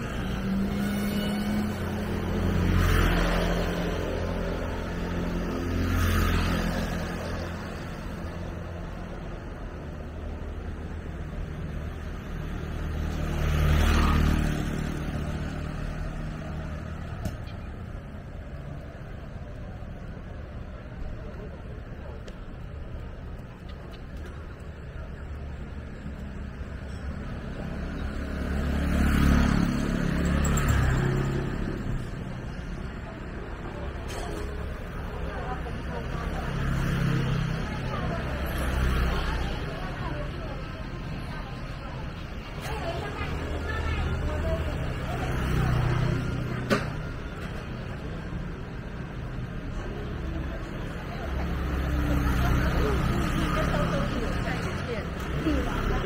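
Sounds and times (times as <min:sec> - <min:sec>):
motor vehicles passing: 0:00.0 - 0:56.0
street noise: 0:00.0 - 0:56.0.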